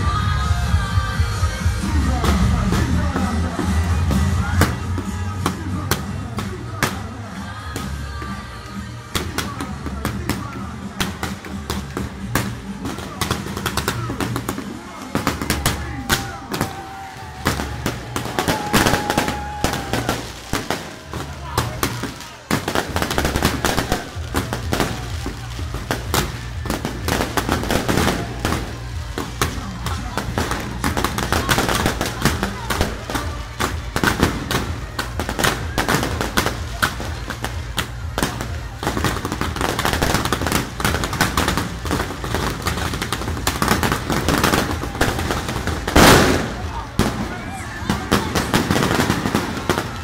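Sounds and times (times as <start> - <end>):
band music: 0.0 - 50.0
firecracker bangs: 9.0 - 50.0.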